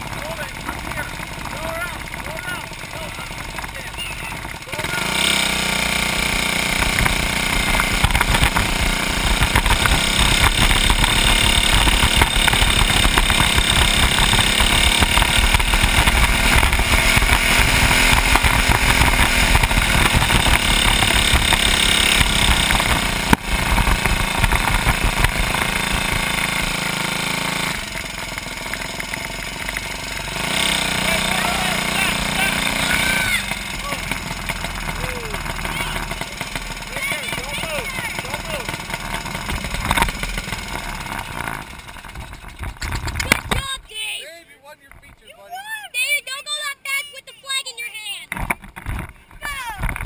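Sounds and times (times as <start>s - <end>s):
small kart engine running: 0.0s - 44.2s, 45.7s - 50.0s.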